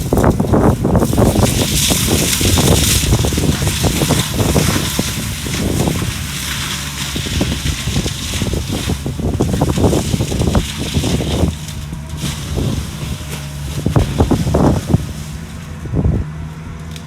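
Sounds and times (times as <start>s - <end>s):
wood cracking and snapping: 0.0s - 16.0s, 16.6s - 17.0s
engine running under load: 0.0s - 17.0s
mulching drum grinding brush: 0.0s - 17.0s.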